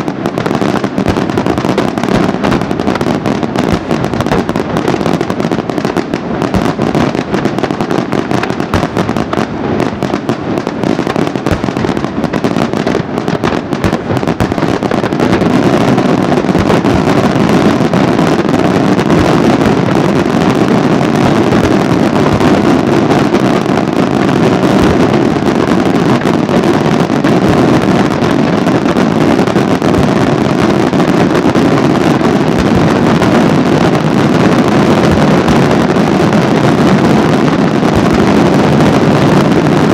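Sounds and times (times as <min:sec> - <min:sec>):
fireworks crackling bangs: 0:00.0 - 0:39.9.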